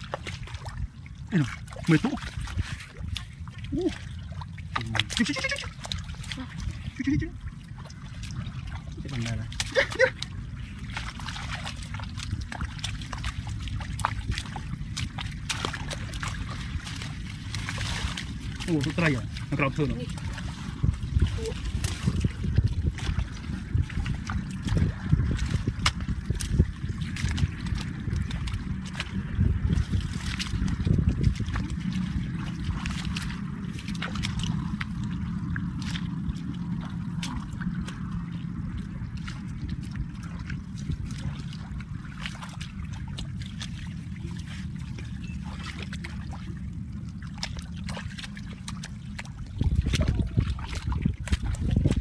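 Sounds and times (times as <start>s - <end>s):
splashing in muddy water: 0.0s - 52.0s
steady low rumble: 0.0s - 52.0s.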